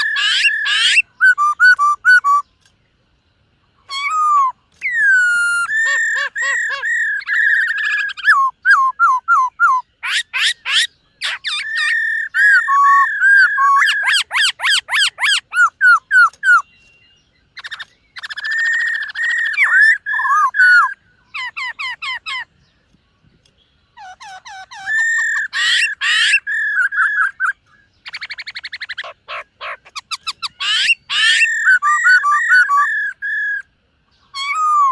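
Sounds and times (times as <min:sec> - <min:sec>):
bird singing whistled phrases: 0:00.0 - 0:02.6, 0:03.9 - 0:22.5, 0:24.0 - 0:29.4, 0:30.0 - 0:34.9.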